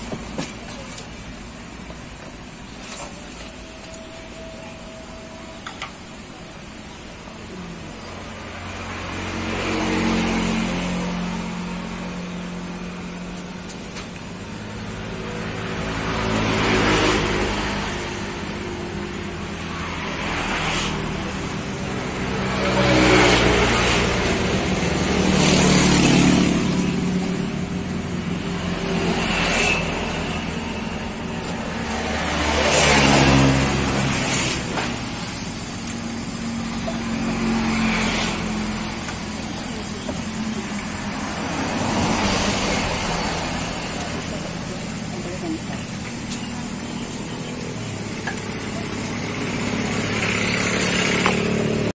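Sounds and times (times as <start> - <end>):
vehicles passing: 0.0 - 51.9.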